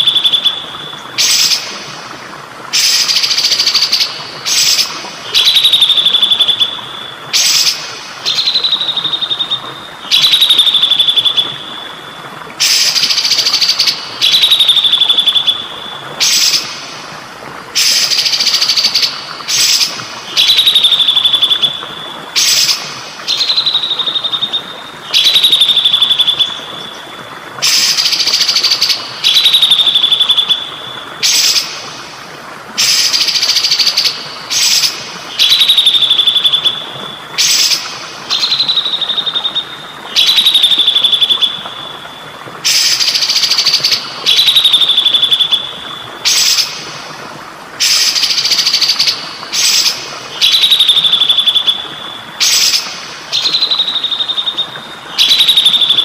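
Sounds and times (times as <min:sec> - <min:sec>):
trickling water: 0:00.0 - 0:56.0
bird song with rasps and whistles: 0:02.8 - 0:11.9, 0:12.6 - 0:16.8, 0:17.8 - 0:31.8, 0:32.8 - 0:36.8, 0:37.4 - 0:46.8, 0:47.8 - 0:56.0.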